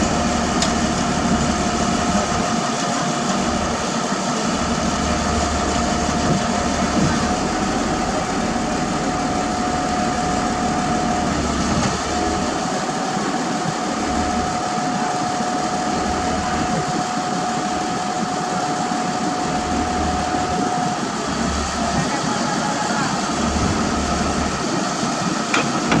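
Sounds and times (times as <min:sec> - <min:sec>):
constant high whine: 0:00.0 - 0:26.0
diesel engine rumble: 0:00.0 - 0:26.0.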